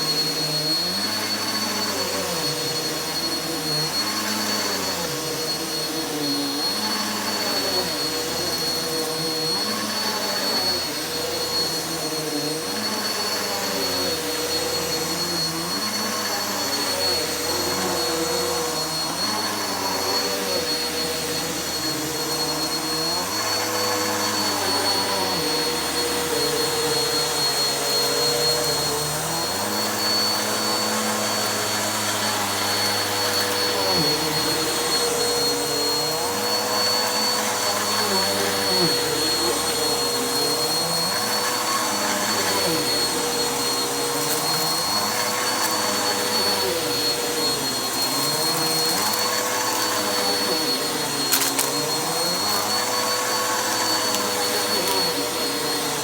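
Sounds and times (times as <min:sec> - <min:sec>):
vacuum cleaner on carpet: 0:00.0 - 0:56.0.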